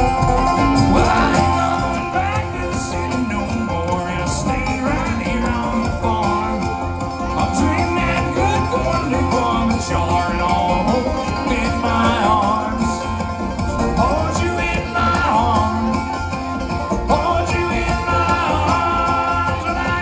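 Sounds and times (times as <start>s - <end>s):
bluegrass band playing: 0.0s - 20.0s
person singing: 0.6s - 16.3s, 17.0s - 20.0s.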